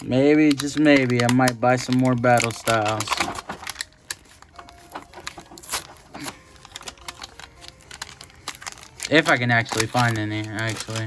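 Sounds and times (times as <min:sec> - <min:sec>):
foil wrapper and cards crinkling: 0:00.0 - 0:11.0.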